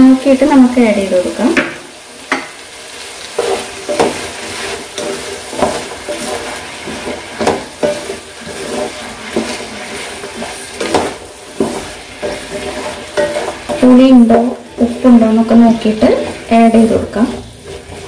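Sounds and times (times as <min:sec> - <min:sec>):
faint sizzle: 0:00.0 - 0:18.0
spatula scraping pan: 0:02.2 - 0:18.0.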